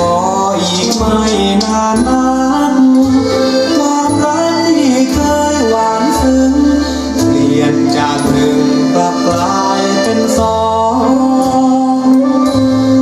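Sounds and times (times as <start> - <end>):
music with singing voice: 0.0 - 13.0
steady bass line: 0.0 - 13.0.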